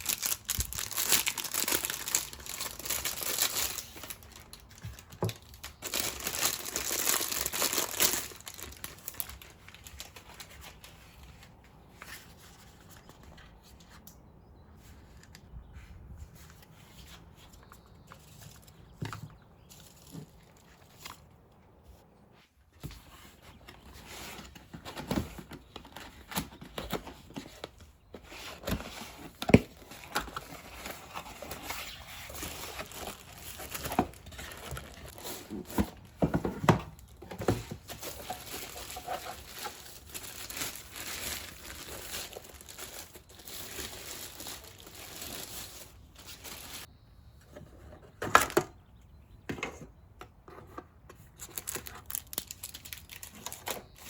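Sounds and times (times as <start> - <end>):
crinkling and rustling: 0.0 - 14.2, 14.8 - 46.9, 49.4 - 54.0.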